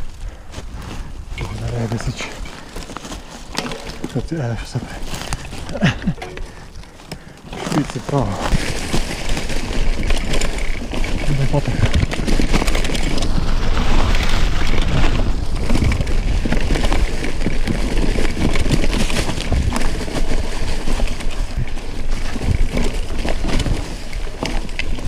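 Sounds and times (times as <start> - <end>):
bike knocks and rattles: 1.3 - 25.0.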